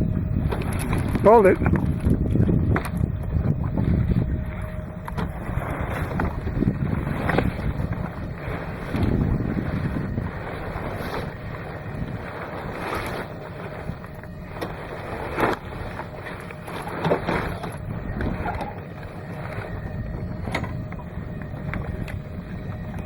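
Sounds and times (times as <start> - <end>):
water noise: 0.0 - 23.0
wind: 0.0 - 23.0.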